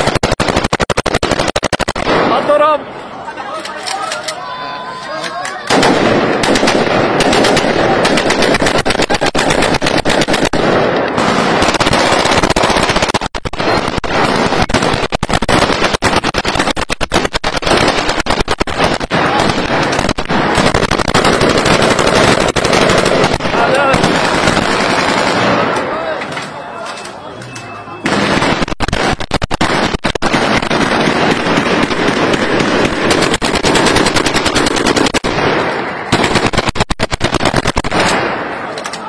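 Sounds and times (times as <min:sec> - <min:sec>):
automatic gunfire bursts: 0:00.0 - 0:02.6, 0:05.7 - 0:25.7, 0:28.0 - 0:38.4.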